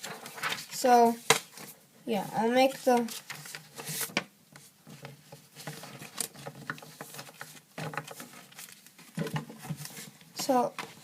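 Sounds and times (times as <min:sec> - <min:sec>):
paper rustling and folding: 0:00.0 - 0:11.0.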